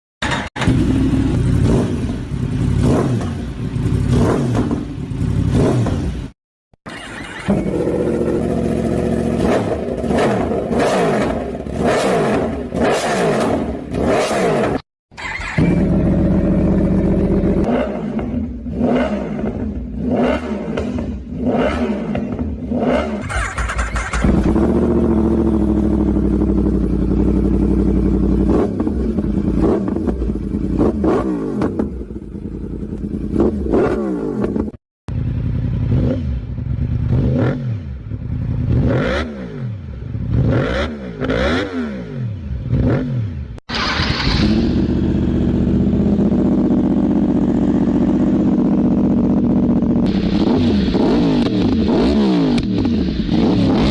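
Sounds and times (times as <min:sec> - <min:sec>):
motorcycle engine revving: 0:00.2 - 0:53.9.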